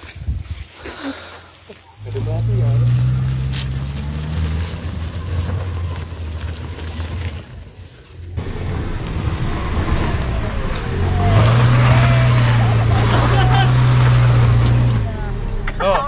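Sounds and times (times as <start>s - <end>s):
car engine running under load: 2.0s - 16.0s.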